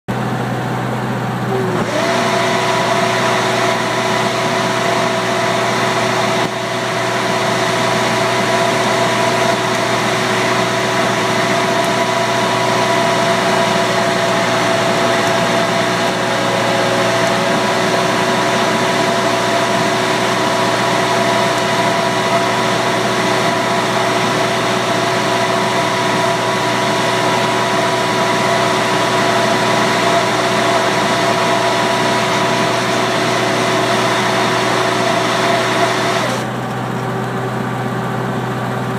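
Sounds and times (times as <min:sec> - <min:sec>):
blower fan motor humming: 0:00.1 - 0:38.9.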